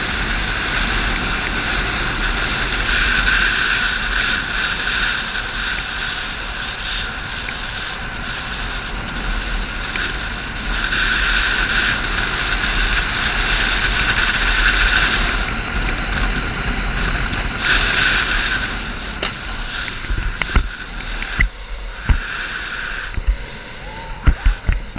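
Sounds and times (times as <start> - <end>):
road roar: 0.0 - 24.9
wind rushing over microphone: 0.0 - 24.9.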